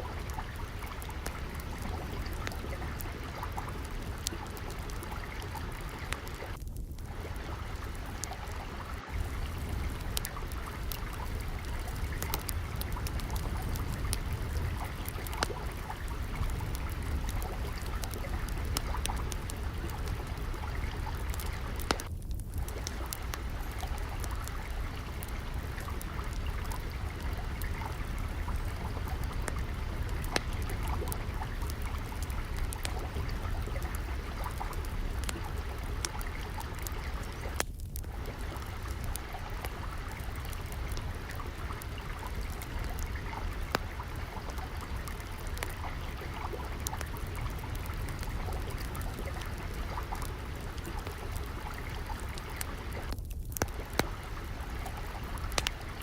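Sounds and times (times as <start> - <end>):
trickling water: 0.0 - 56.0
wood fire crackling: 0.0 - 56.0.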